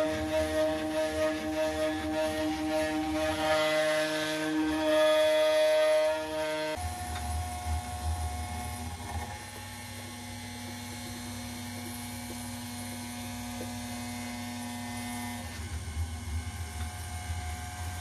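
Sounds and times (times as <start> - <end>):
cnc router milling metal: 0.0 - 18.0.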